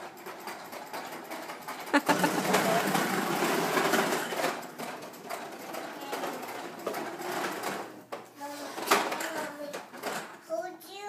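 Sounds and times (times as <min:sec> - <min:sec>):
toy lawn mower whirring and rattling: 0:00.0 - 0:10.4.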